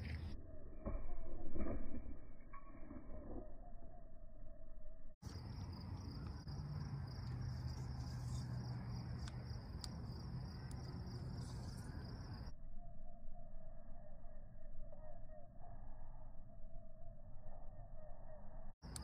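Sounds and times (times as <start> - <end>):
low hum: 0.0 - 19.0
crickets chirping: 3.3 - 19.0.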